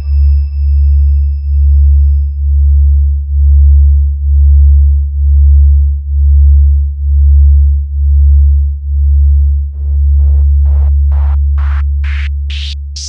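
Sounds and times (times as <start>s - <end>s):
pulsing sub-bass sine tone: 0.0s - 13.0s.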